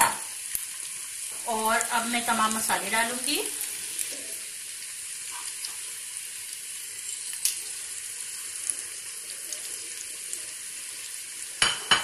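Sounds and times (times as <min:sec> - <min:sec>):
chickpeas sizzling in hot oil: 0:00.0 - 0:12.0.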